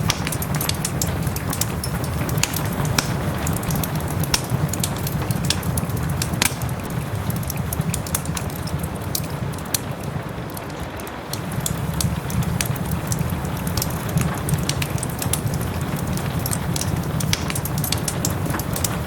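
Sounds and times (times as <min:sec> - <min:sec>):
soft rain: 0:00.0 - 0:19.0
wood fire crackling: 0:00.0 - 0:19.0.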